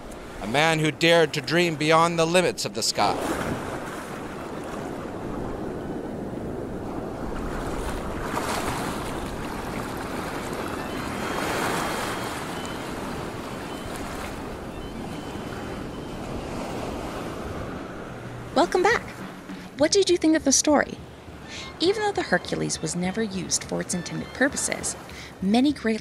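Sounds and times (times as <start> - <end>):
ocean waves washing in: 0.0 - 25.4.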